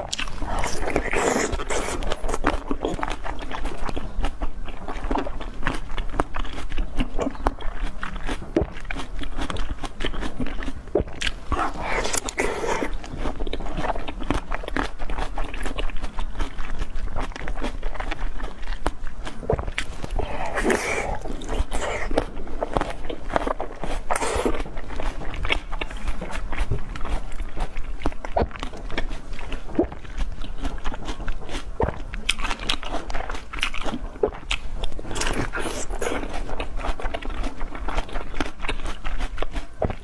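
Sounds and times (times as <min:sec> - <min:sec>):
mouth biting and chewing: 0:00.0 - 0:40.0.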